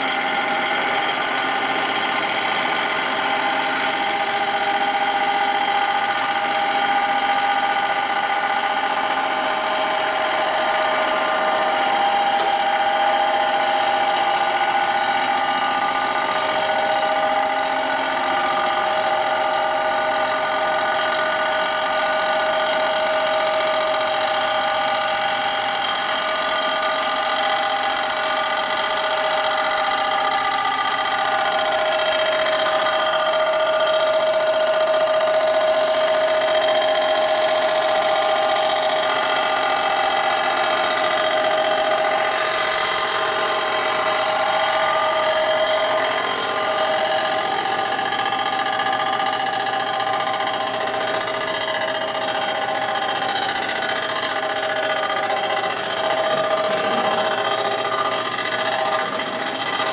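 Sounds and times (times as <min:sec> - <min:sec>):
machine tool cutter whining: 0:00.0 - 0:59.9.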